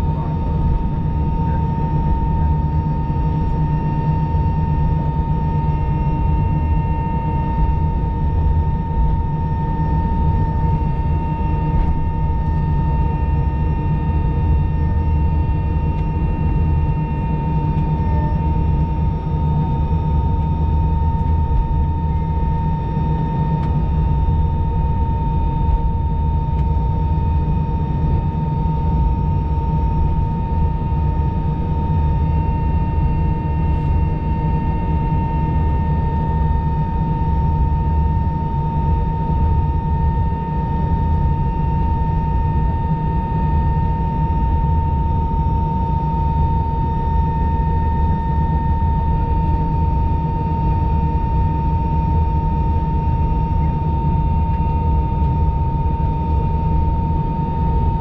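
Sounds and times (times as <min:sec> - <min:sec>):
jet engines rumbling with whine: 0:00.0 - 0:58.0.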